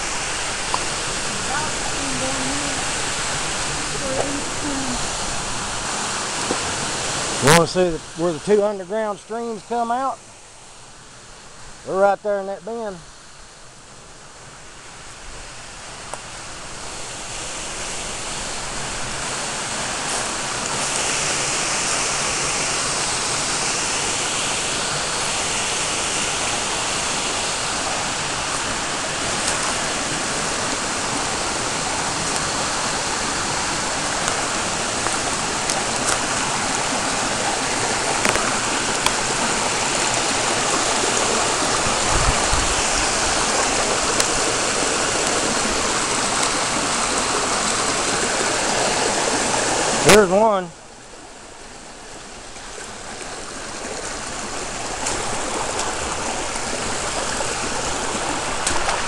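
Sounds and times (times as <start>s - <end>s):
creek rushing over rocks: 0.0s - 59.0s.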